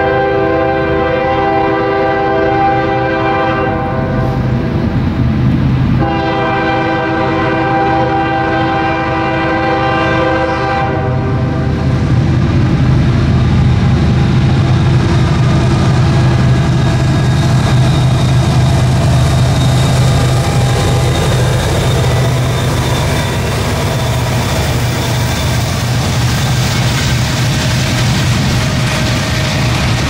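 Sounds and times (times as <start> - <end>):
diesel locomotive engine hum: 0.0 - 30.0
train wheels hissing on rails: 0.0 - 30.0.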